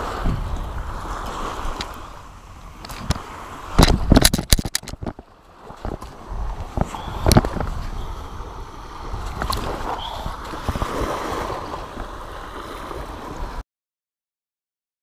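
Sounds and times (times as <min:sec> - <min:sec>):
small waves on sandy shore: 0:00.0 - 0:13.6
wind rumble on microphone: 0:00.0 - 0:13.6.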